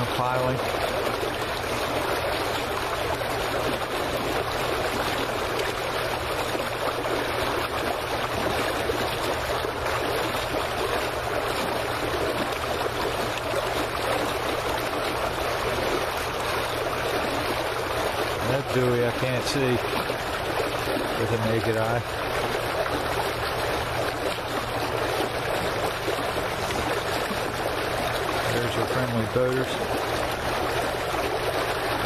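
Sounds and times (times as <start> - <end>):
water lapping against a dock: 0.0 - 32.0.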